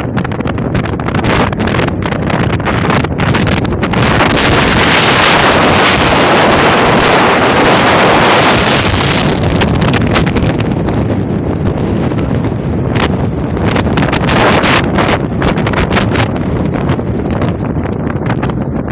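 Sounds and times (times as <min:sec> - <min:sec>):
road noise: 0:00.0 - 0:18.9
wind buffeting a microphone: 0:00.0 - 0:18.9.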